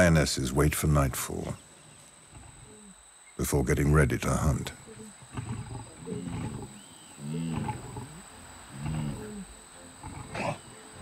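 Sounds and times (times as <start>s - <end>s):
lionesses moaning calls: 1.4s - 11.0s.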